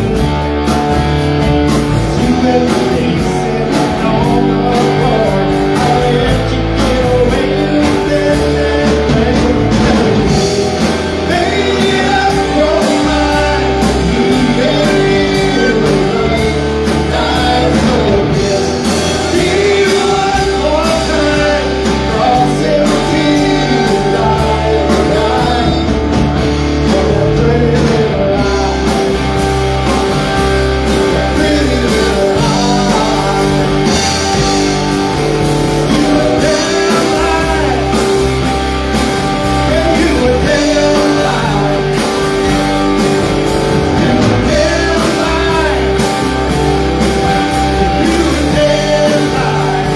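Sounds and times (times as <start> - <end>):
bass guitar: 0.0 - 49.9
electric guitar: 0.0 - 49.9
person singing: 0.0 - 49.9.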